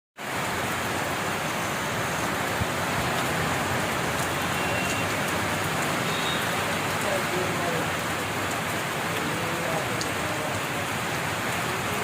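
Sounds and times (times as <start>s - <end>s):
heavy rain falling: 0.2s - 12.0s.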